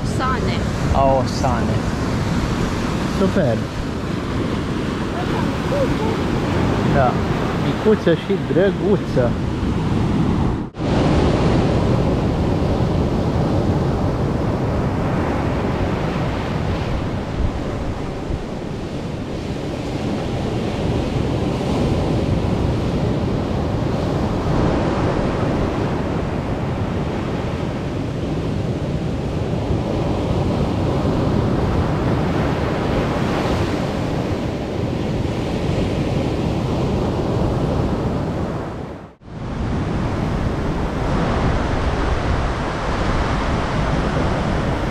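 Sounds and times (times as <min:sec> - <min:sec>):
surf washing onto beach: 0:00.0 - 0:44.9
wind buffeting microphone: 0:00.0 - 0:44.9.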